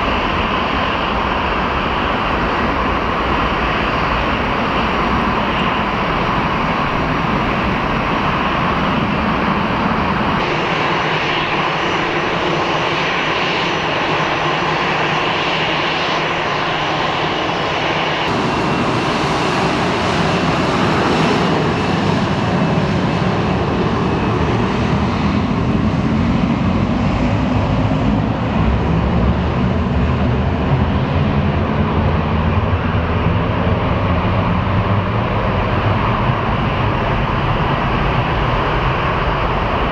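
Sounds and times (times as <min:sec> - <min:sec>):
jet engines roaring at takeoff: 0:00.0 - 0:39.9.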